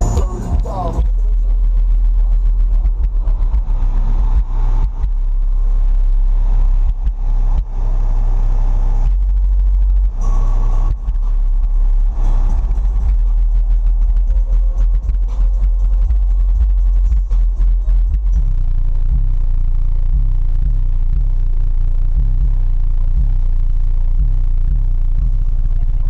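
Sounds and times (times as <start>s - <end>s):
loud deep bass from subwoofers: 0.0s - 26.0s.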